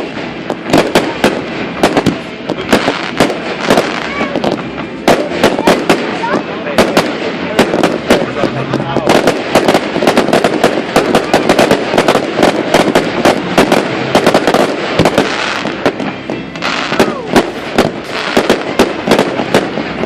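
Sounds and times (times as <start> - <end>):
fireworks cracking and banging: 0.0 - 20.0.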